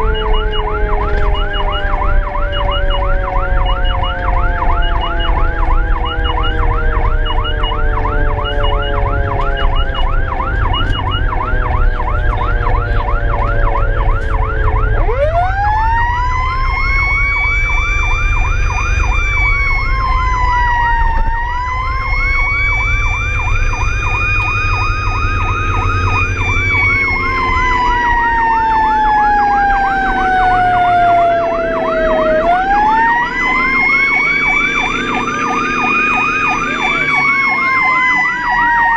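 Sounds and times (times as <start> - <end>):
electronic yelp siren: 0.0 - 38.9
vehicle engine rumble: 0.0 - 38.9
wailing siren: 0.0 - 38.9.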